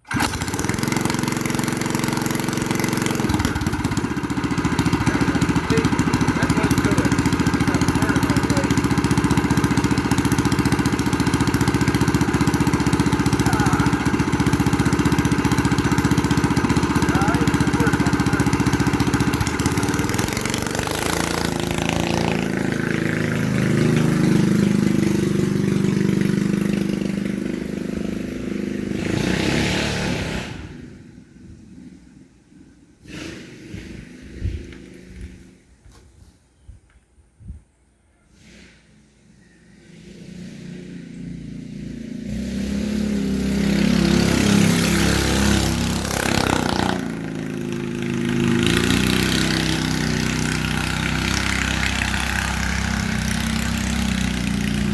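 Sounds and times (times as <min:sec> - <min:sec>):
go-kart engine revving: 0:00.0 - 0:35.7, 0:38.3 - 0:54.9.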